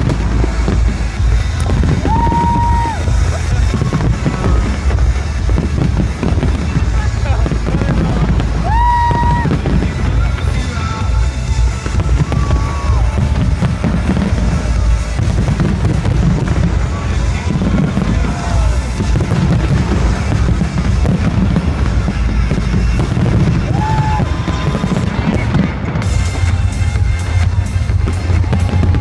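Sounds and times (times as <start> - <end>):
firework whistles: 0.0 - 29.0
fireworks booming and crackling: 0.0 - 29.0
loud music: 0.0 - 29.0.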